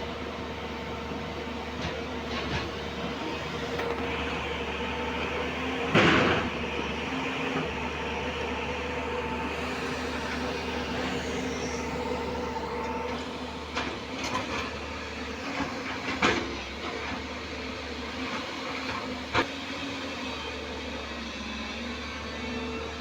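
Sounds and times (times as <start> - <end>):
excavator diesel engine running: 0.0 - 19.6.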